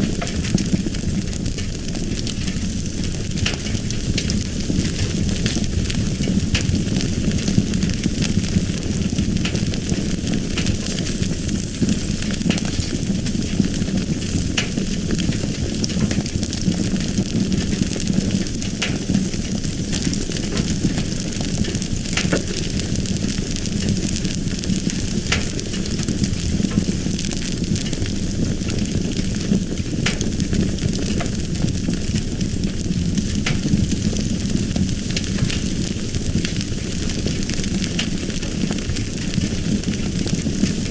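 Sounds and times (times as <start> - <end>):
fire burning with rumble: 0.0 - 40.9
fire crackling and popping: 0.0 - 40.9.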